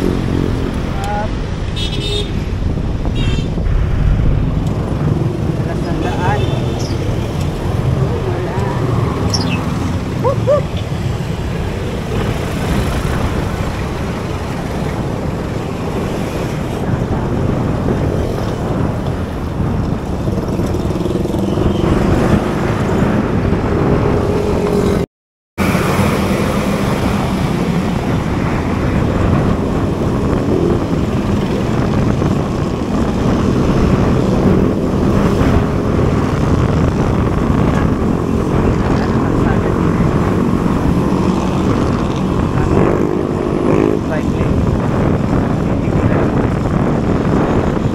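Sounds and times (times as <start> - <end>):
car truck and motorcycle engines: 0.0 - 47.9
wind roaring on microphone: 0.0 - 47.9.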